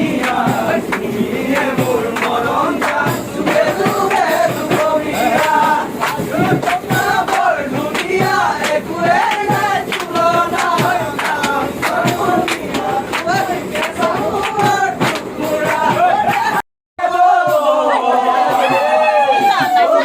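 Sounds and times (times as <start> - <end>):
song with singing and beat: 0.0 - 20.0.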